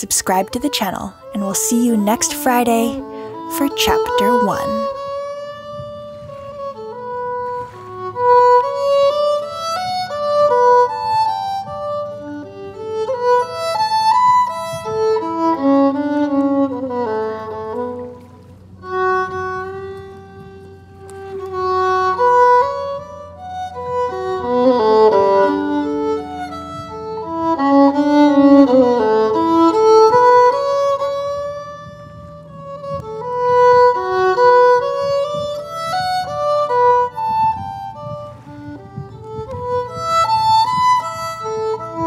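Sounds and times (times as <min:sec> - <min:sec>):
solo violin slow melody: 0:00.0 - 0:42.0.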